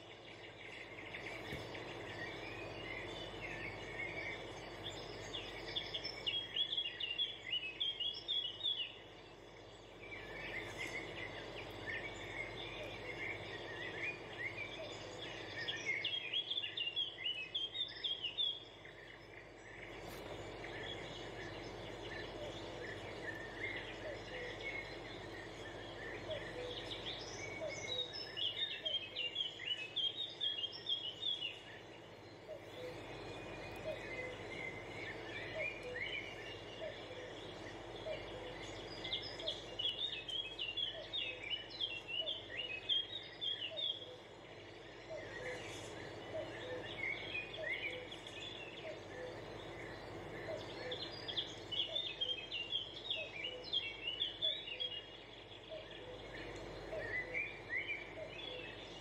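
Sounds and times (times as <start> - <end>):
small birds twittering: 0.0 - 59.0
steady background hiss: 0.0 - 59.0.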